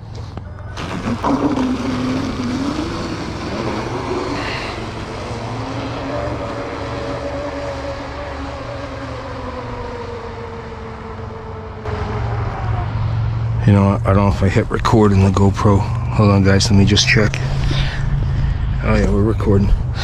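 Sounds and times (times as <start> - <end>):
rushing water and air: 0.0 - 16.1.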